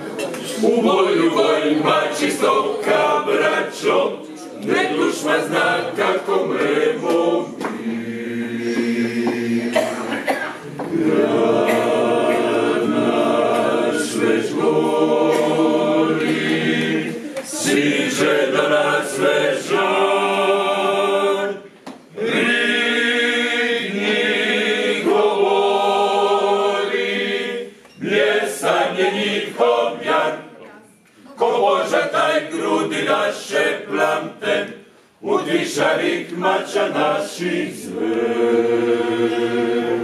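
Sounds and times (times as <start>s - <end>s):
male group singing a cappella: 0.4s - 30.6s, 31.3s - 40.0s.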